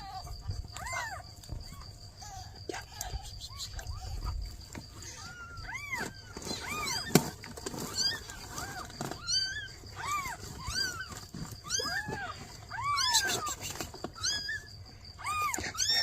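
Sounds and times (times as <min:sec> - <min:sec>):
kittens meowing: 0:00.0 - 0:16.0.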